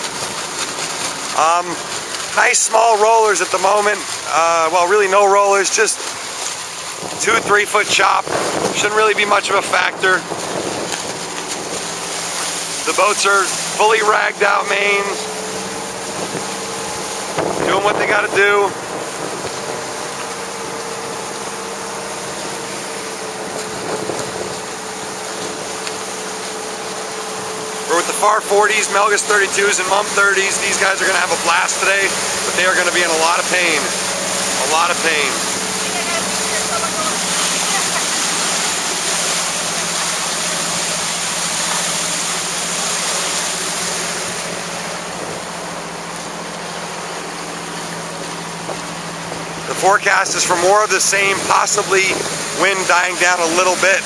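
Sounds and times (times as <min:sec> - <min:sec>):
motorboat engine humming: 0:00.0 - 0:54.0
rushing water: 0:00.0 - 0:54.0
wind: 0:00.0 - 0:54.0.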